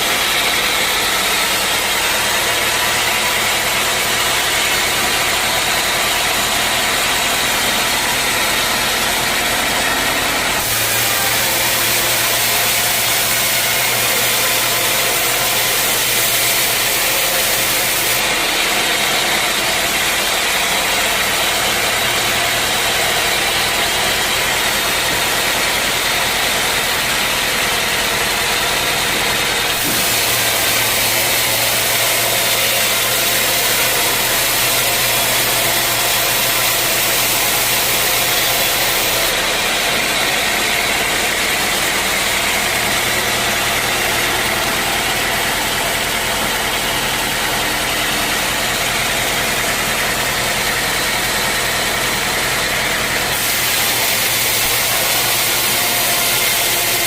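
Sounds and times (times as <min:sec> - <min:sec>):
sawmill machinery drone and hiss: 0:00.0 - 0:57.0.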